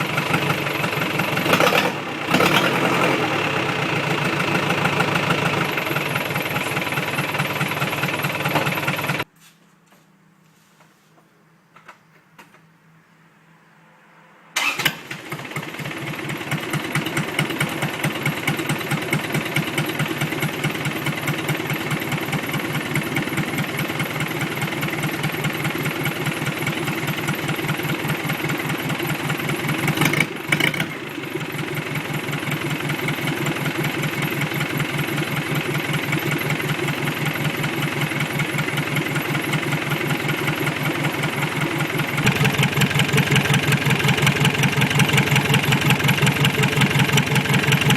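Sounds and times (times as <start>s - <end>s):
diesel engine idling: 0.0s - 9.3s, 14.6s - 47.9s.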